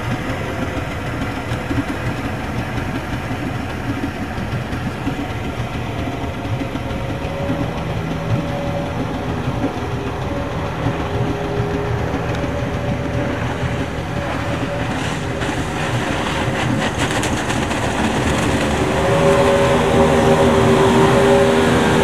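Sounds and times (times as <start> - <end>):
outboard motors running: 0.0 - 22.0
water rushing under boat: 0.0 - 22.0.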